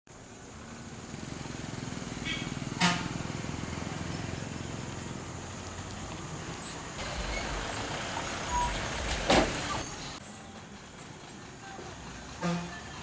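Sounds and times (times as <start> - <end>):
heavy vehicle engine rumble: 0.1 - 13.0.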